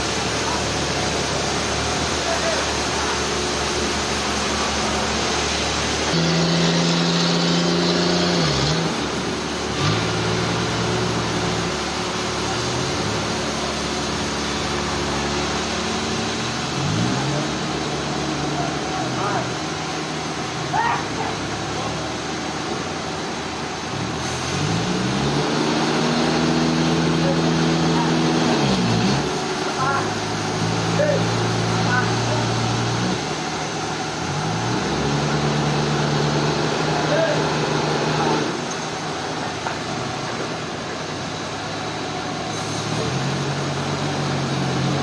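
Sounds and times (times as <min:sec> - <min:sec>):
sawmill engine revving: 0:00.0 - 0:45.0.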